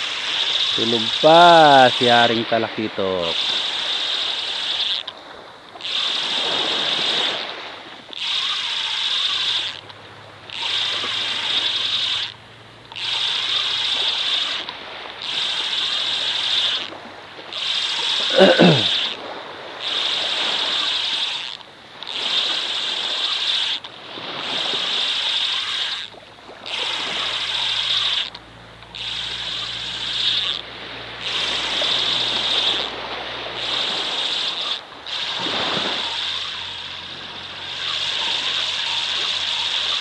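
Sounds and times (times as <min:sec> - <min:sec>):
fishing reel whirring: 0:00.0 - 0:40.0.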